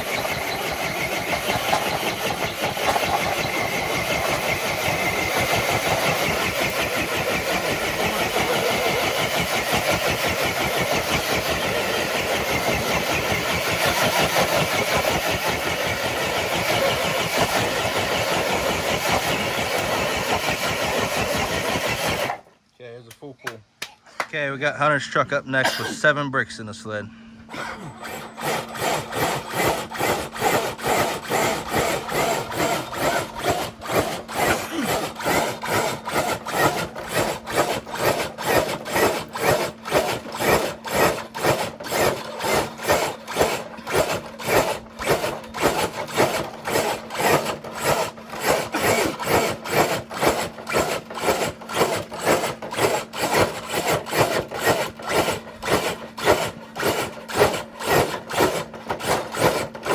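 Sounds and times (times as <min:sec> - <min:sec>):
sled scraping rhythmically: 0:00.0 - 0:22.3, 0:27.6 - 0:59.9.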